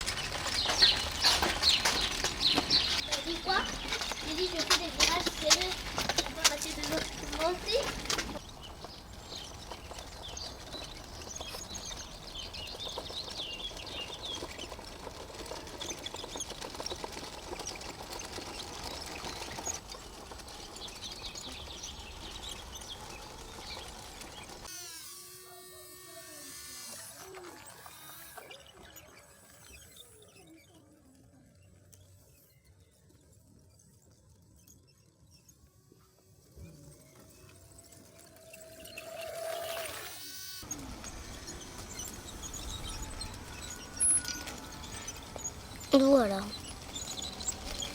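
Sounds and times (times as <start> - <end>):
small birds chirping: 0.0 - 24.7, 26.4 - 47.9
steady outdoor noise: 0.0 - 24.8, 25.8 - 47.9.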